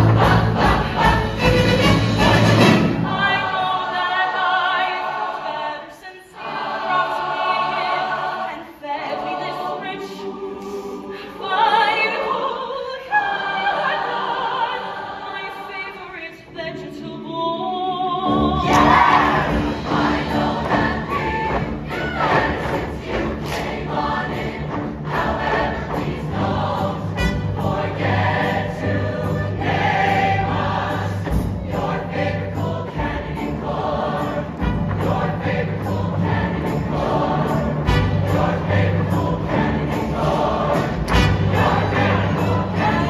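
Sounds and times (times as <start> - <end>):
choir singing chords: 0.0 - 43.0.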